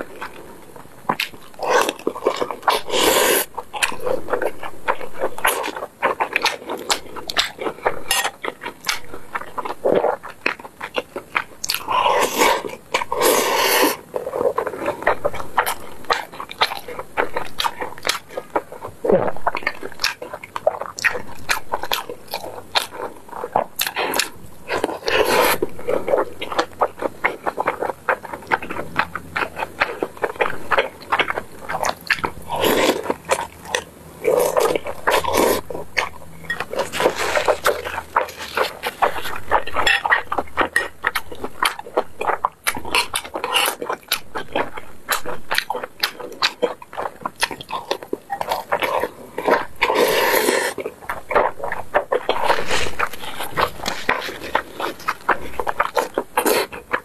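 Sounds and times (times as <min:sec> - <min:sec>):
person chewing with wet smacking: 0:00.0 - 0:57.0.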